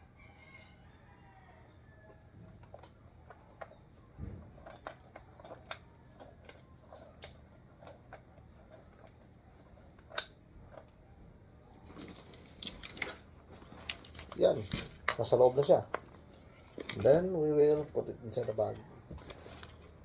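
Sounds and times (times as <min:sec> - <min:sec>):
rifle parts clicking and knocking: 0:02.0 - 0:11.0, 0:11.9 - 0:20.0.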